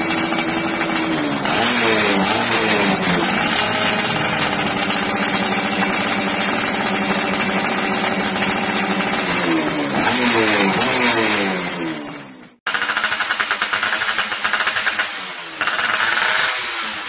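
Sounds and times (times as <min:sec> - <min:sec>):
two-stroke engine idling and revving: 0:00.0 - 0:17.0.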